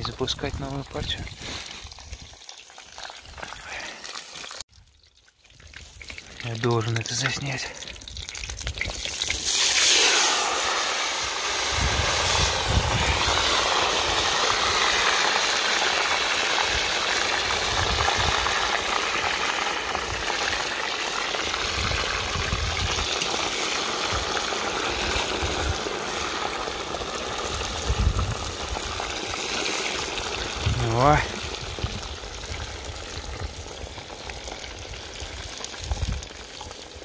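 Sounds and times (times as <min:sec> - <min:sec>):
hot oil sizzling and bubbling: 0:00.0 - 0:37.0.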